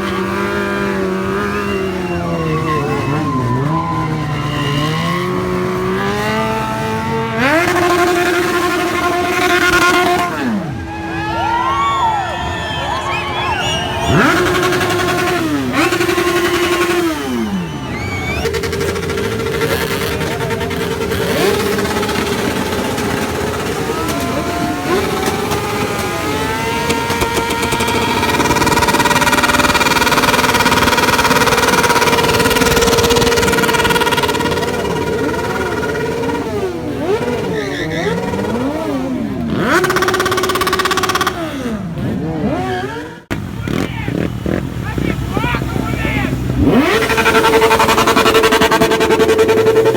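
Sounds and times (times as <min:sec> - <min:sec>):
engine at steady rev: 0:00.0 - 0:11.3, 0:12.5 - 0:49.9
motorcycle engine revving: 0:00.0 - 0:11.3, 0:12.5 - 0:49.9.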